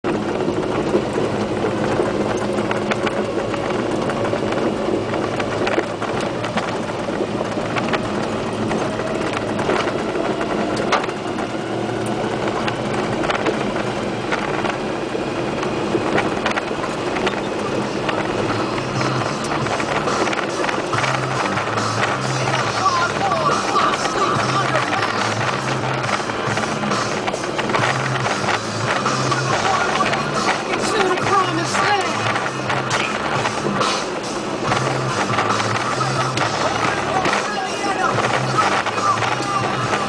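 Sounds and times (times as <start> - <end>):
truck engine and tyre noise: 0.0 - 40.0
clicks and rattles: 0.1 - 40.0.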